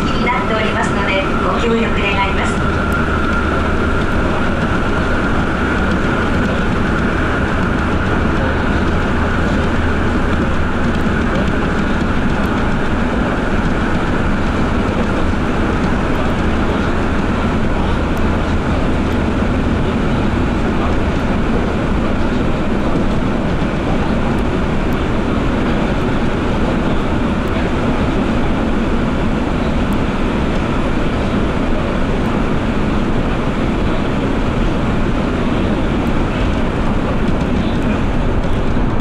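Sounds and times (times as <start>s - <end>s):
high whine: 0.0s - 39.0s
train rumble in tunnel: 0.0s - 39.0s.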